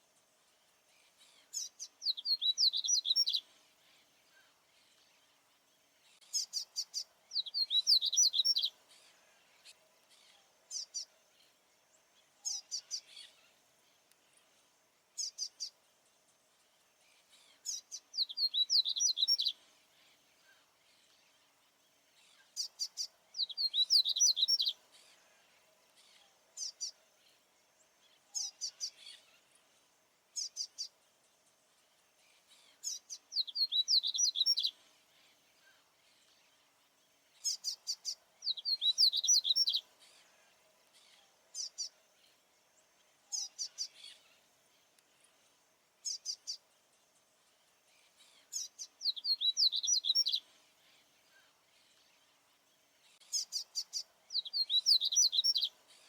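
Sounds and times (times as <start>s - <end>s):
bird singing twittering trill: 0.0s - 56.0s.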